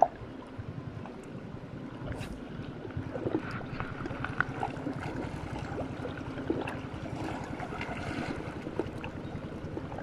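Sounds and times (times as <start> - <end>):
sea water at rocky shore: 0.0 - 10.0
wind: 0.0 - 10.0.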